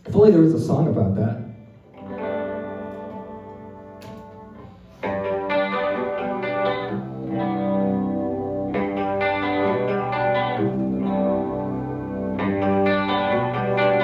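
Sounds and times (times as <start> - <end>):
live band with effects guitar: 0.0 - 14.0.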